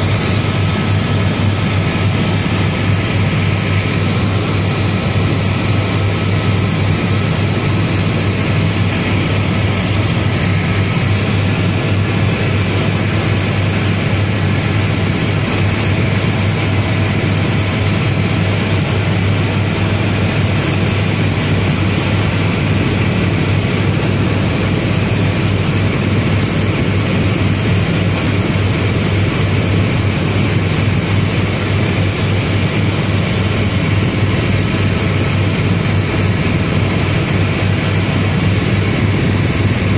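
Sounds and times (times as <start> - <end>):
helicopter cabin rotor and turbine: 0.0 - 39.9.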